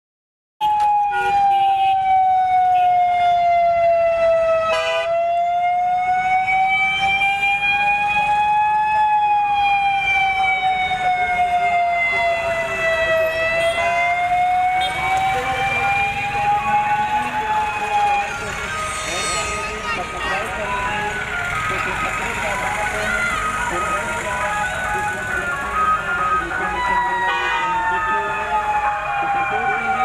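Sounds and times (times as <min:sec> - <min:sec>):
siren wailing: 0:00.6 - 0:30.0.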